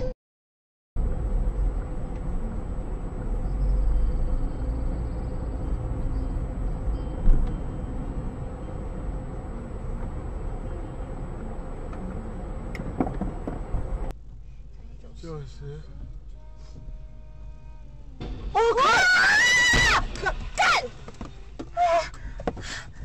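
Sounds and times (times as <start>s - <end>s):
car engine and road rumble: 1.0s - 23.0s.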